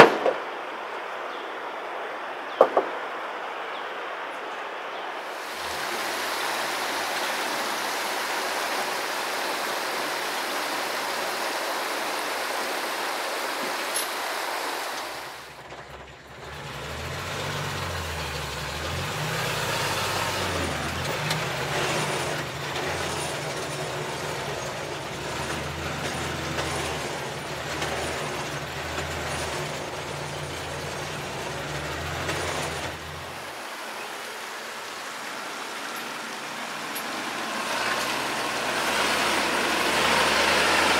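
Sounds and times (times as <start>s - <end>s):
river water rushing: 0.0s - 15.7s, 16.3s - 40.9s
truck engine under load: 5.2s - 40.9s.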